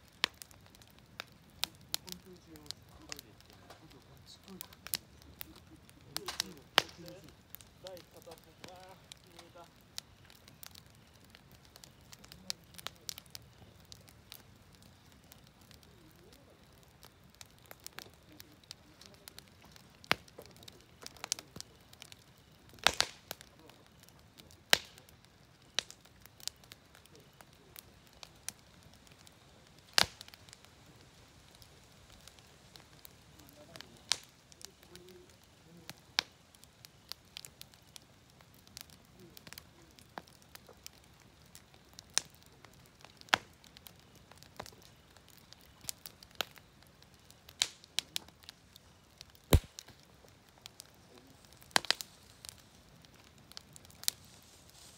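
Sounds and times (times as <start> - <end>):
campfire crackling and popping: 0.0 - 54.9
faint hiss: 0.0 - 54.9.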